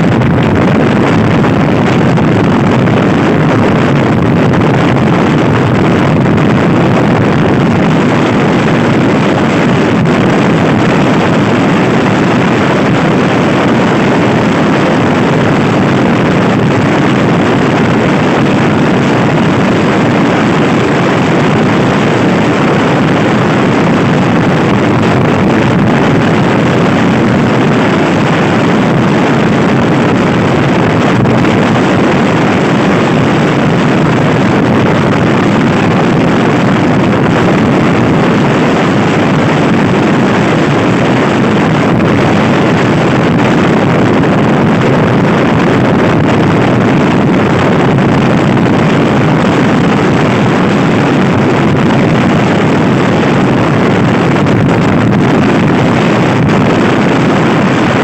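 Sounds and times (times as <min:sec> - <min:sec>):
wind roar on microphone: 0:00.0 - 0:58.0.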